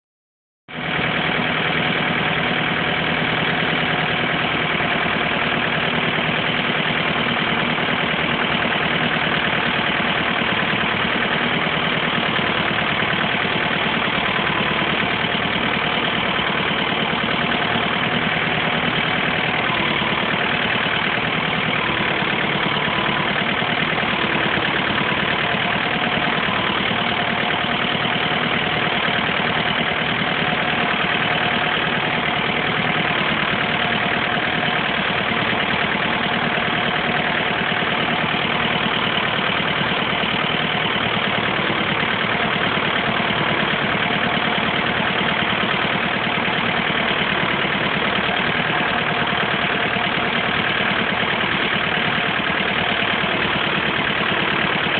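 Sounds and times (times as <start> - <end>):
engine idling: 0.7 - 54.9.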